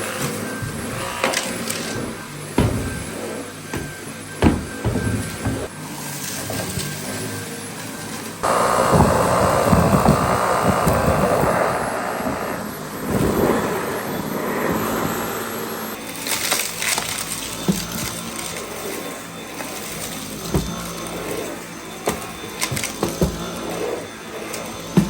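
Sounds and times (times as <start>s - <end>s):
vacuum cleaner motor whining: 0.0s - 25.0s.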